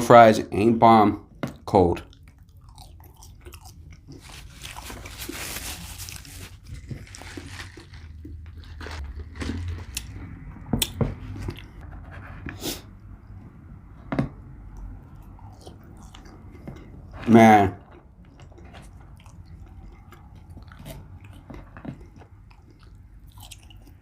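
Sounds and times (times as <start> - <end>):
person chewing food: 2.0 - 11.8, 14.1 - 24.0.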